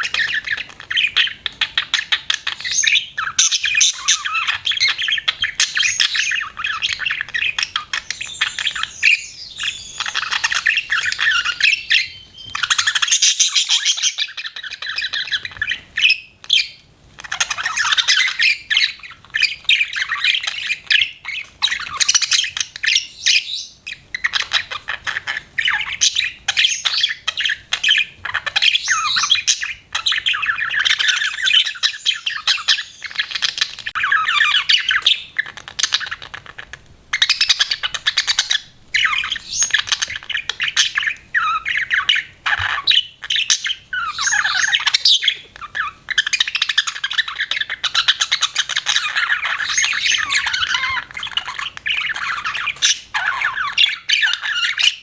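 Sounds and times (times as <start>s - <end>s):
budgerigar chirping and chattering: 0.0s - 55.0s.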